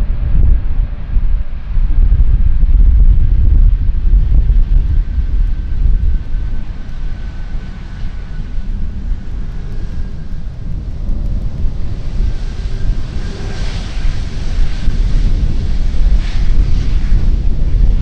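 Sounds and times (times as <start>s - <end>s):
jet engines whining and rumbling: 0.0s - 18.0s
wind buffeting microphone: 0.0s - 18.0s.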